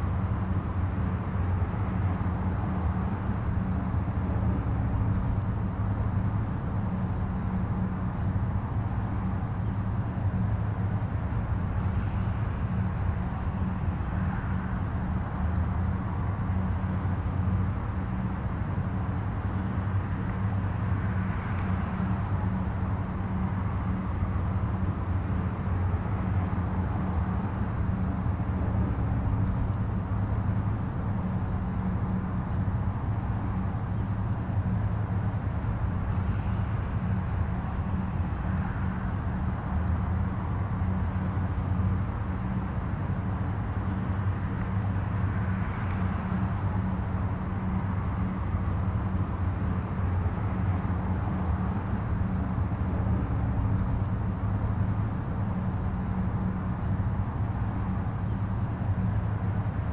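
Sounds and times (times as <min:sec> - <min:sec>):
distant highway traffic: 0:00.0 - 0:59.9.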